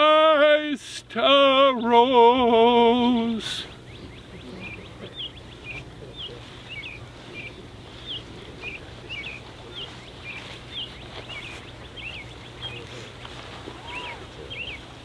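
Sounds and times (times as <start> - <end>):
low background hum: 0.0 - 15.0
bird chirping: 1.2 - 15.0.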